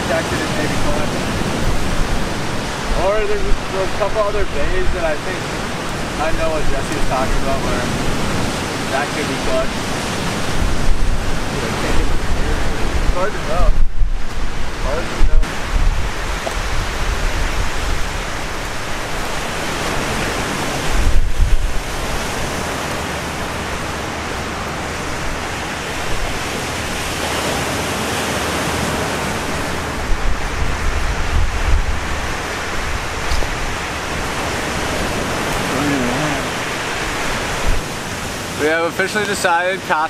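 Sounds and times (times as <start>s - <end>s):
wind buffeting microphone: 0.0s - 38.7s
surf rushing: 0.0s - 40.0s.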